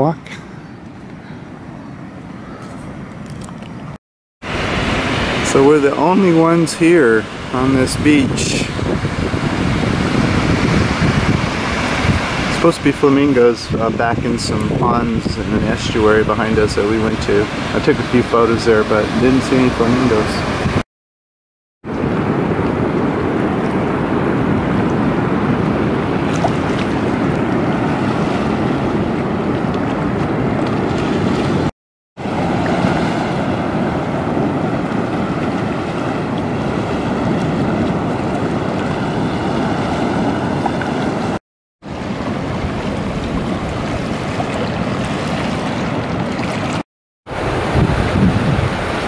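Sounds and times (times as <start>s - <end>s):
wind rumbling on microphone: 0.4s - 20.8s, 21.8s - 49.0s
surf washing: 4.4s - 20.8s, 21.9s - 49.0s.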